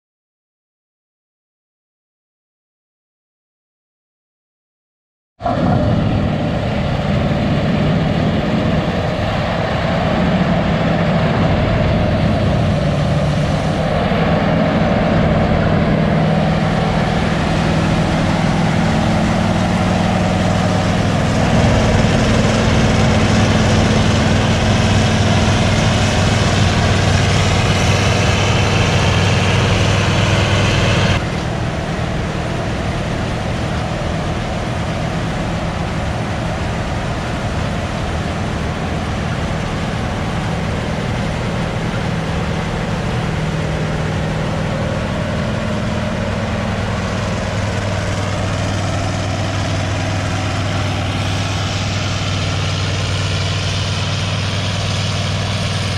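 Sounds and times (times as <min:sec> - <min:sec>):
heavy diesel engine running: 0:05.4 - 0:55.9.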